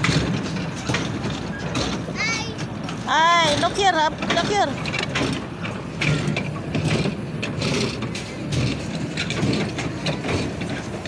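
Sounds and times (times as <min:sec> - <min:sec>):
carousel mechanism rumble: 0:00.0 - 0:11.0
rattling and clicking: 0:00.0 - 0:11.0.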